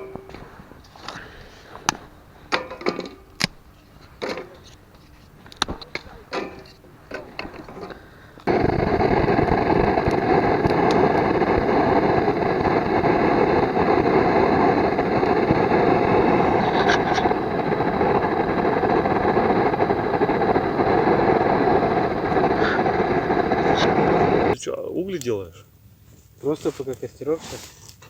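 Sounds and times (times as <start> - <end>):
engine running steadily: 0.0 - 24.6
faint clicks: 0.0 - 24.6.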